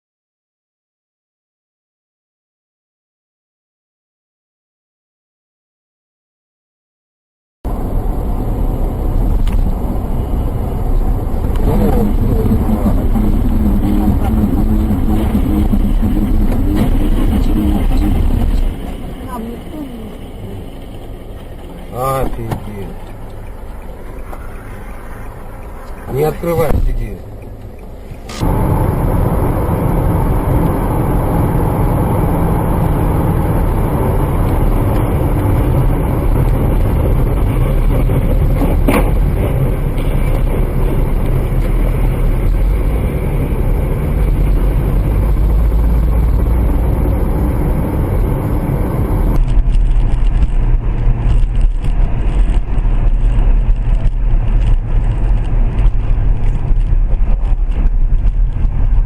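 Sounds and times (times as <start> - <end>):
deep rumble: 7.7 - 59.0
vehicle engine and road noise: 7.7 - 59.0.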